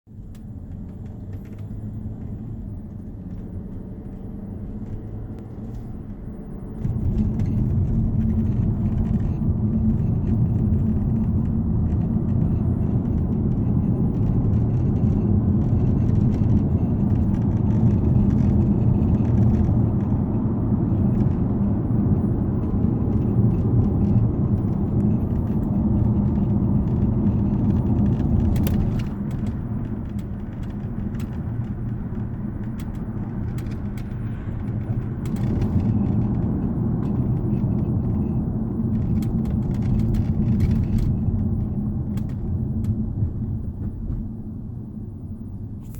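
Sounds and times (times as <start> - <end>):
road rumble inside moving car: 0.1 - 45.9.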